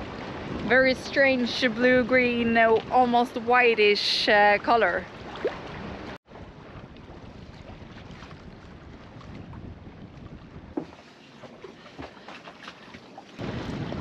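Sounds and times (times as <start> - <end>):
wind noise on microphone: 0.0 - 12.1, 13.4 - 14.0
sea water lapping: 0.0 - 14.0.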